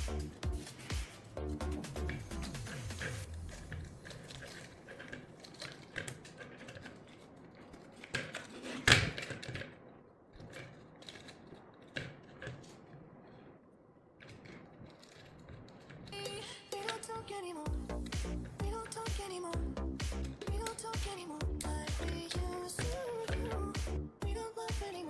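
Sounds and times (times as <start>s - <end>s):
small parts clicking and tapping: 0.2s - 13.6s, 14.2s - 23.6s.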